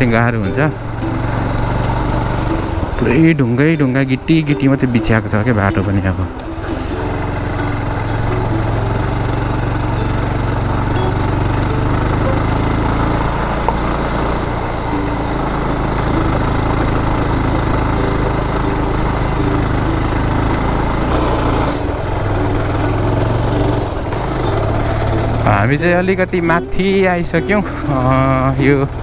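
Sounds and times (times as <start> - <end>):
gravel road noise: 0.0 - 29.0
motorcycle engine running: 0.0 - 29.0.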